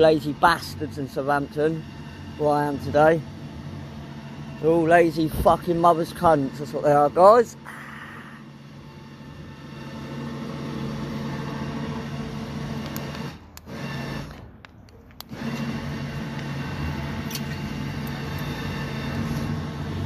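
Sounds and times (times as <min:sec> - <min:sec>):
electric winch motor humming: 0:00.0 - 0:14.6, 0:15.2 - 0:20.0.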